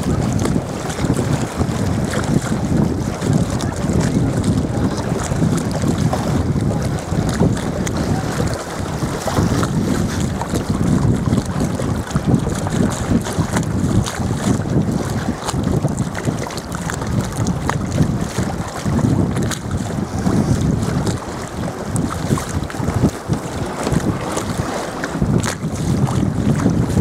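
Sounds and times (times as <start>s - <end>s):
water lapping against boat: 0.0s - 27.0s
wind buffeting microphone: 0.0s - 27.0s.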